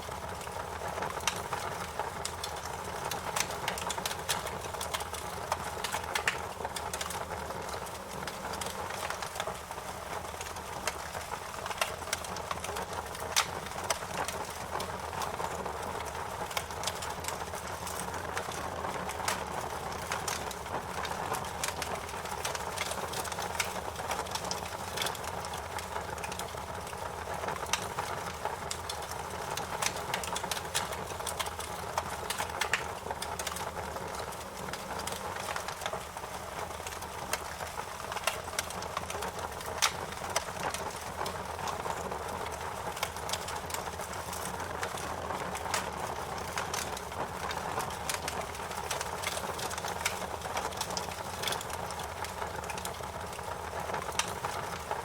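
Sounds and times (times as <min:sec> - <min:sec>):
wood crackling and popping: 0:00.0 - 0:55.0
rushing flames: 0:00.2 - 0:55.0.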